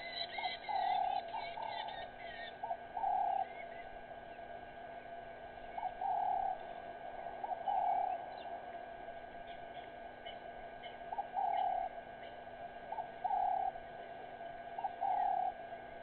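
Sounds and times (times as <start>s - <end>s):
dove cooing: 0.0s - 4.0s, 5.6s - 8.7s, 9.4s - 16.0s
small birds chirping: 0.0s - 16.0s.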